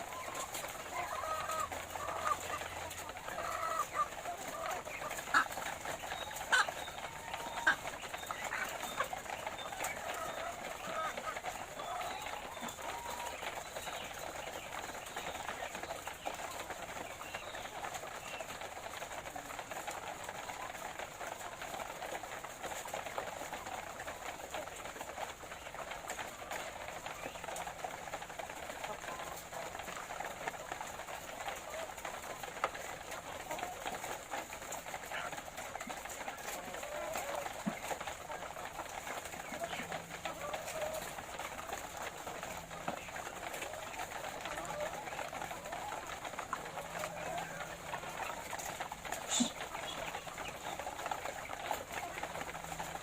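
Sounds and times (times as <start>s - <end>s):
hens clucking: 0.0s - 53.0s.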